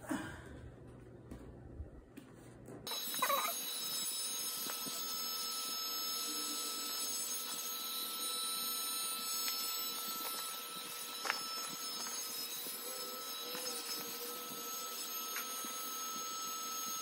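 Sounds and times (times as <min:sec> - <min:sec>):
electric air pump whine: 0:02.9 - 0:17.0.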